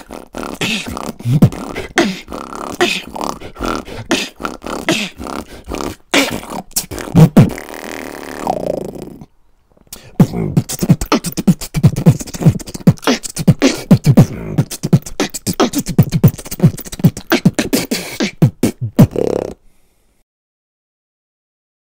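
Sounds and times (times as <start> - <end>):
beatboxing: 0.0 - 9.3, 9.9 - 19.6.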